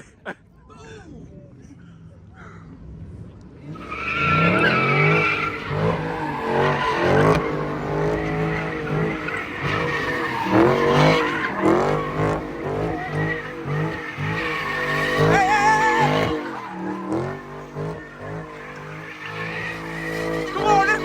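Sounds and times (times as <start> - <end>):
car engine revving hard: 3.6 - 21.0
tyre squeal: 3.7 - 21.0.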